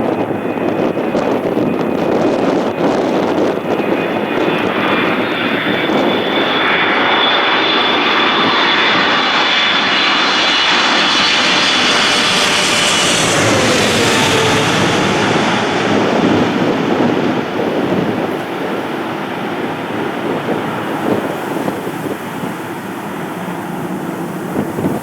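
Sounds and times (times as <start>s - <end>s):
airliner engines roaring: 0.0s - 25.0s
high engine whine: 0.0s - 25.0s.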